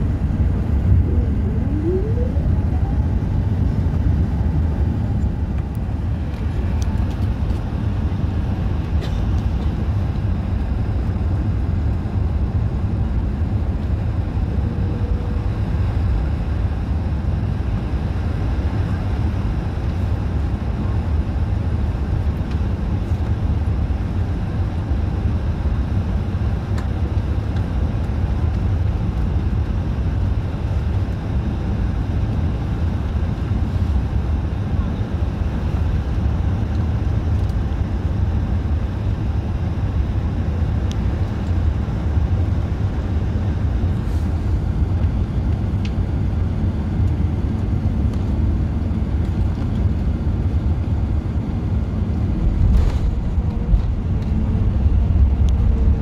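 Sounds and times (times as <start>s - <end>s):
jet engines low rumble in cabin: 0.0s - 56.0s.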